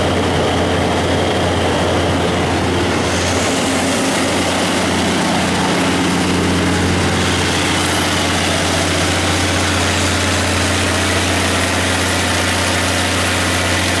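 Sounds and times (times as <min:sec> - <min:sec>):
diesel generator running: 0:00.0 - 0:14.0.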